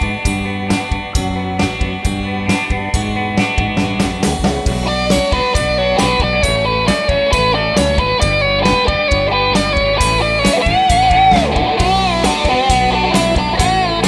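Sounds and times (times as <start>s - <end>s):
bass guitar: 0.0s - 14.0s
drum beat: 0.0s - 14.0s
electric guitar lead: 0.0s - 14.0s.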